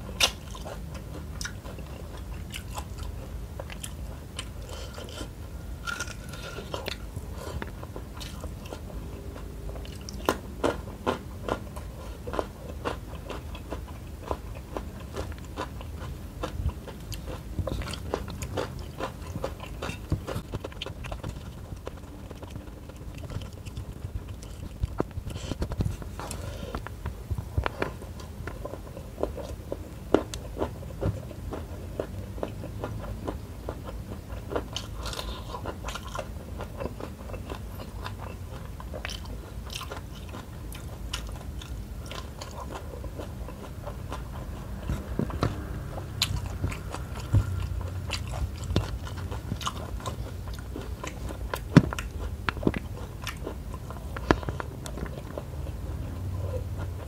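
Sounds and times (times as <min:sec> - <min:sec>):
person chewing and biting: 0:00.0 - 0:57.0.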